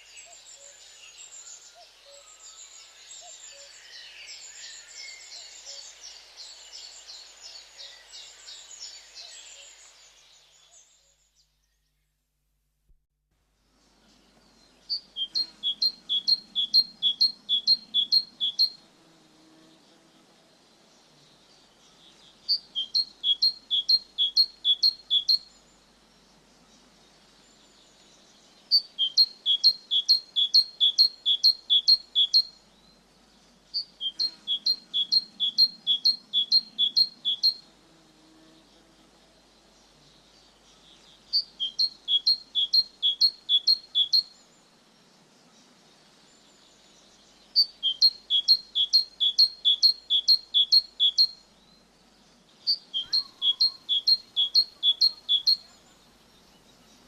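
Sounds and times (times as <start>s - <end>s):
songbird singing: 0.0s - 12.2s, 13.6s - 57.0s.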